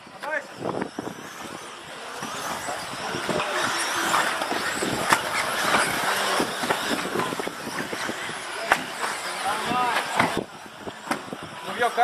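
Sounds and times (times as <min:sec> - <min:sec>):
radio-controlled cars racing: 0:00.0 - 0:12.0.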